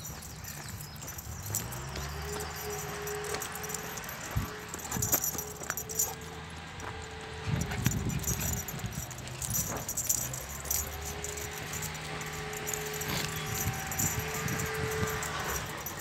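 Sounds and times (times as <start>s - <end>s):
dog chain collar jingling: 0.0s - 16.0s.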